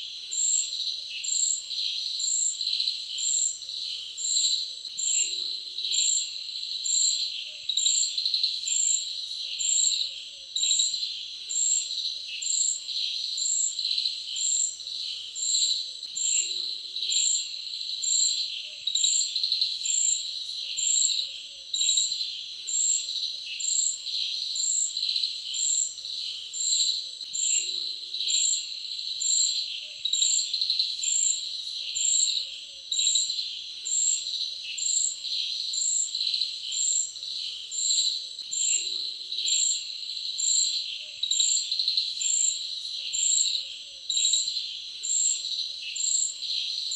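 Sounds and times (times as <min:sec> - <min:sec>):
insects trilling in chorus: 0:00.0 - 0:46.9.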